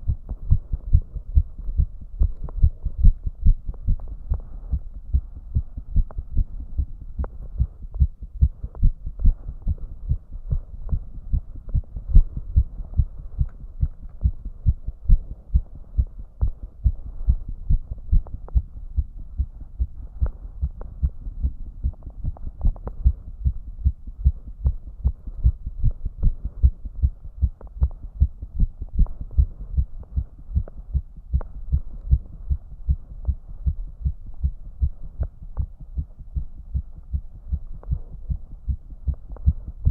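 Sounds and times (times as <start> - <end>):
fast heartbeat thuds: 0.0 - 39.9.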